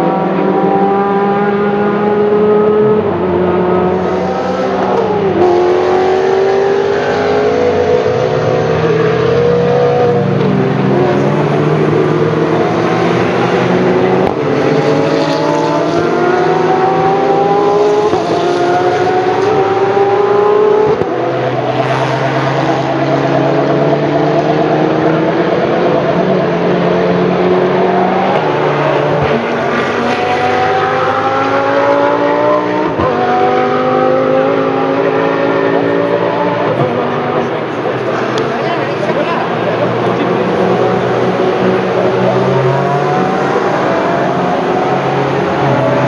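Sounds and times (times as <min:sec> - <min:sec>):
racing car engines passing: 0:00.0 - 0:46.0.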